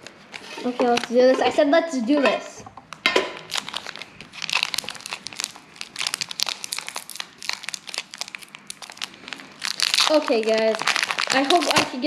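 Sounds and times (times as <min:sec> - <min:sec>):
card packaging crinkling and tearing: 0:00.0 - 0:01.2, 0:03.4 - 0:12.0.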